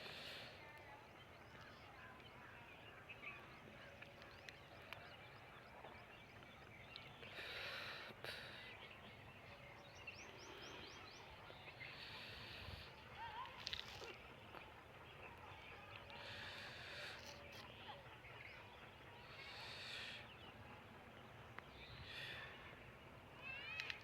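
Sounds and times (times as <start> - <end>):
faint outdoor hiss: 0.0 - 24.0
small birds chirping far off: 0.0 - 24.0.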